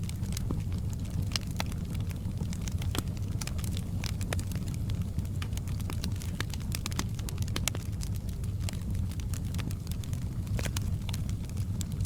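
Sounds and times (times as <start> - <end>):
low rumble of flames: 0.0 - 12.0
wood fire crackling: 0.0 - 12.0.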